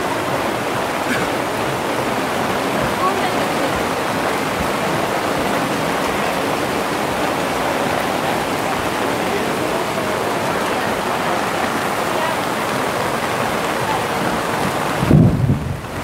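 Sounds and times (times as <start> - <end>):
heavy rain hissing: 0.0 - 16.0
rushing water: 0.0 - 16.0.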